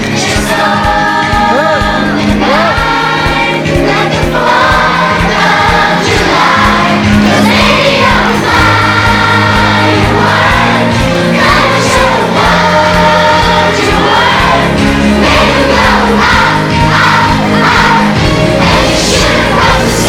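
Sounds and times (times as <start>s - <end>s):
children singing in unison: 0.0s - 20.0s
music with steady beat: 0.0s - 20.0s.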